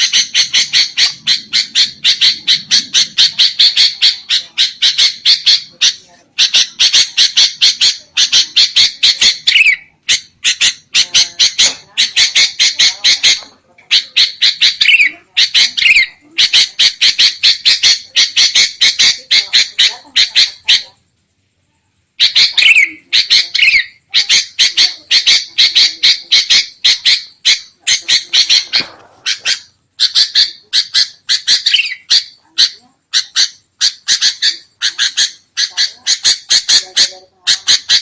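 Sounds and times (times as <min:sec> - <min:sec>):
bulbuls chattering: 0:00.0 - 0:21.2, 0:22.2 - 0:38.0.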